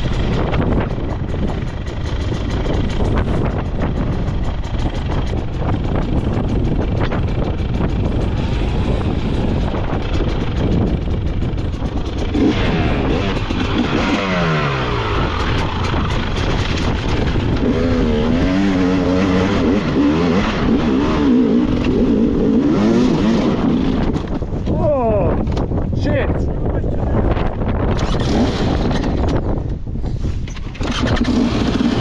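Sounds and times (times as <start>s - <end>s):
motorcycle engine revving: 0.0s - 24.7s, 27.3s - 29.8s, 30.6s - 32.0s
wind noise on microphone: 0.0s - 32.0s.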